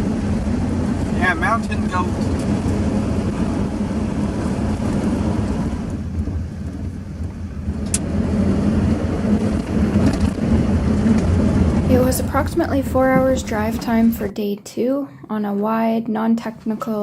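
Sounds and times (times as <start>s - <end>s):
tyres rumbling on gravel: 0.0s - 14.3s
truck engine hum: 0.0s - 17.0s.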